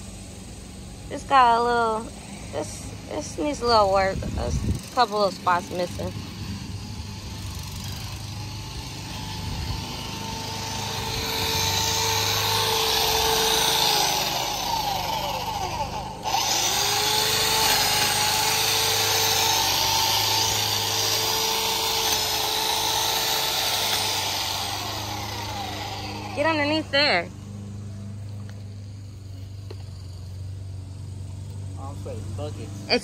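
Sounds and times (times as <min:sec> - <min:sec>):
hedge trimmer running: 0:00.0 - 0:33.0.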